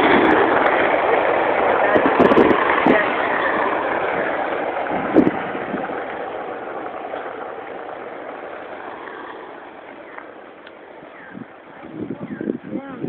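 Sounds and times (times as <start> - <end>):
skateboard wheels rolling on asphalt: 0.0 - 12.8.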